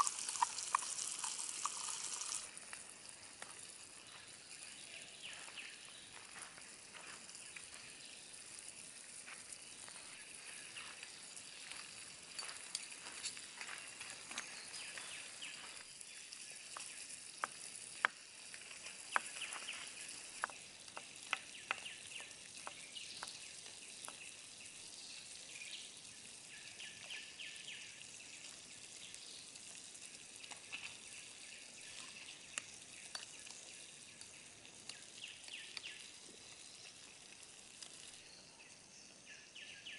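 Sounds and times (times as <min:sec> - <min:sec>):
sharp pops and crackles: 0:00.0 - 0:15.9, 0:16.6 - 0:24.8, 0:28.3 - 0:38.2
food sizzling in a pan: 0:00.0 - 0:38.6.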